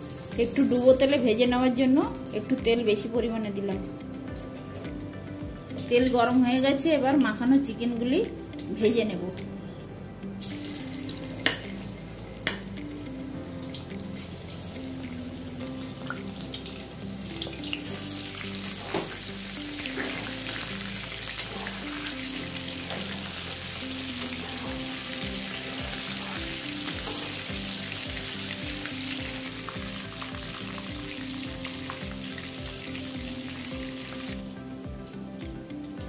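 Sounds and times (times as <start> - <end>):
background music tune: 0.0 - 36.0.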